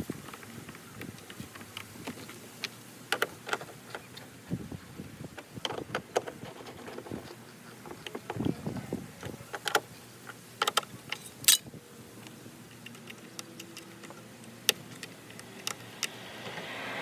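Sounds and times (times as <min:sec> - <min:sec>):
hand tools clicking and knocking: 0:00.1 - 0:04.4, 0:05.4 - 0:08.6, 0:09.2 - 0:16.2.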